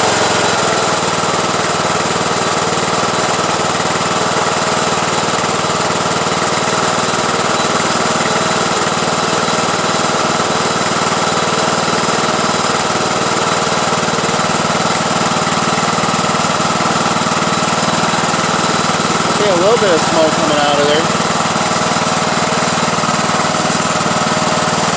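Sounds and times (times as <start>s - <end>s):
lawn tractor engine running: 0.0s - 24.9s.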